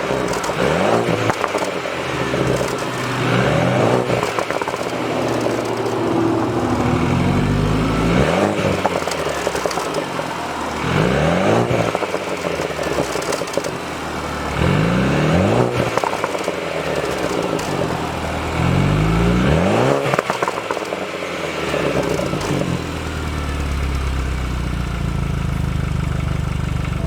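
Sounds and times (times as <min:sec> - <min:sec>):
car exhaust revving: 0:00.0 - 0:27.0.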